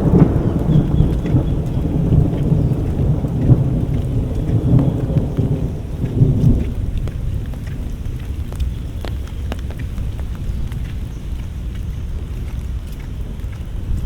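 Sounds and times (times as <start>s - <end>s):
thunder rumbling: 0.0s - 11.7s
rain: 0.0s - 14.0s.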